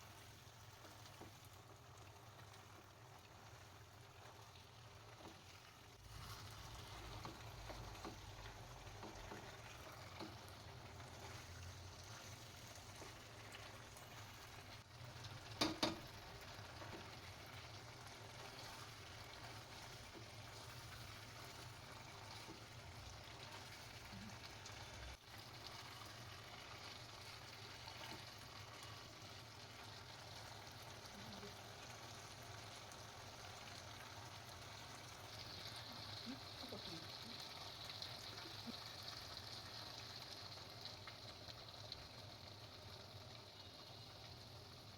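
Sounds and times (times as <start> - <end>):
roast sizzling in a pan: 0.0 - 44.9.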